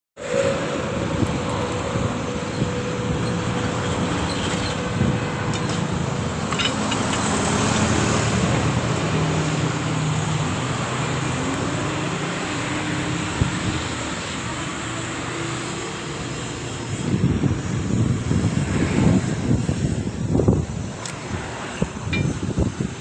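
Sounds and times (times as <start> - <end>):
traffic noise: 0.2 - 23.0.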